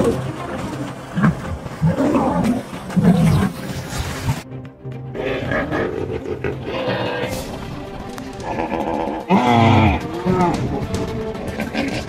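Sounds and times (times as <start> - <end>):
lion growling and roaring: 0.0 - 4.4, 5.0 - 12.0
background music: 0.0 - 12.0.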